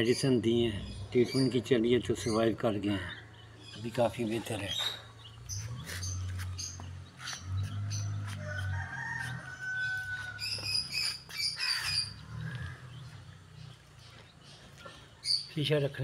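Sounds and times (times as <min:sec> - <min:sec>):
chickens calling: 0:00.0 - 0:15.6.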